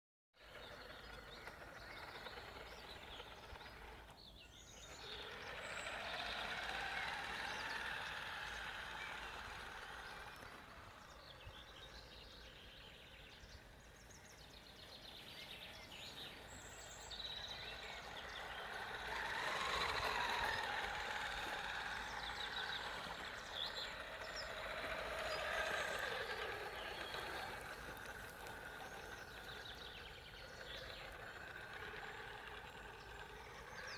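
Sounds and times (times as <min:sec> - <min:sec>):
electric motor whining: 0:00.5 - 0:12.7, 0:13.8 - 0:33.9.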